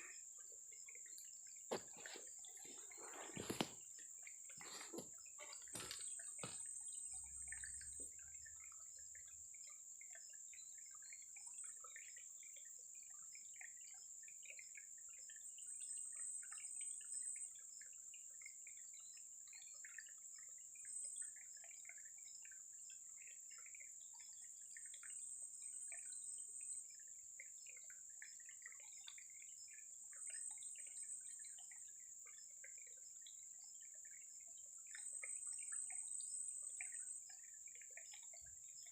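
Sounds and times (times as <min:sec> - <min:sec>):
water drips and trickles: 0:00.0 - 0:38.9.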